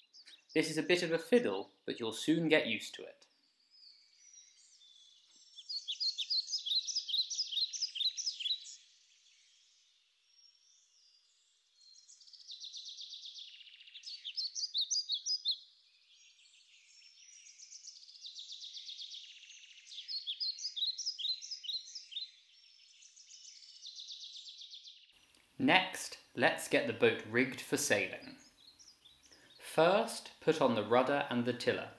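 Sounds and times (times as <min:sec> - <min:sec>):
songbird chirping and trilling: 0:00.0 - 0:31.9.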